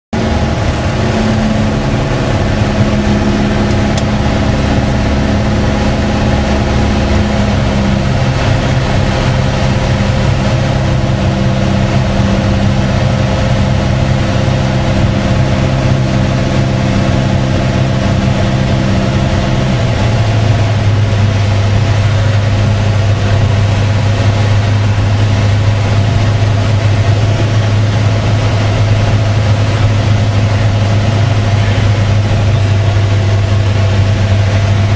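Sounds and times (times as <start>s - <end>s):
airplane engine droning in cabin: 0.2s - 34.9s.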